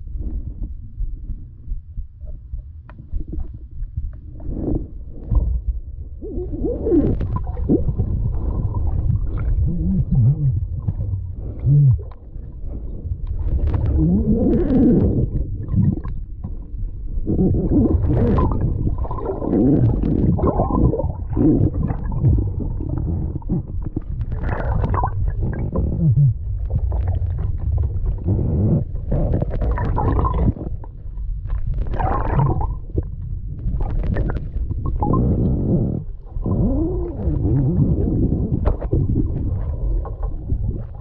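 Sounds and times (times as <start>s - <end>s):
underwater gurgling and bubbles: 0.0s - 41.0s.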